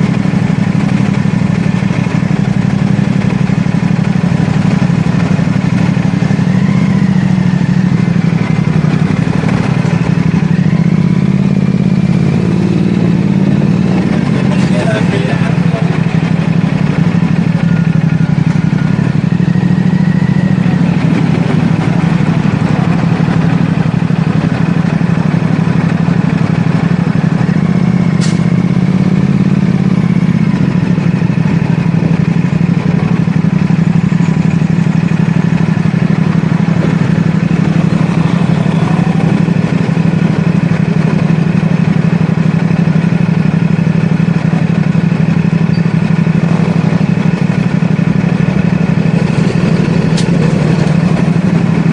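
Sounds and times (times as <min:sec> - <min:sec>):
motorcycle engine running steadily: 0:00.0 - 0:51.9.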